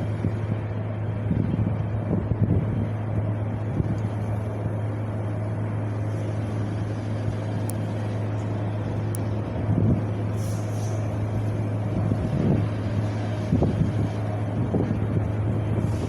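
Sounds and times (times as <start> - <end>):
wind blowing with low rumble: 0.0 - 16.0.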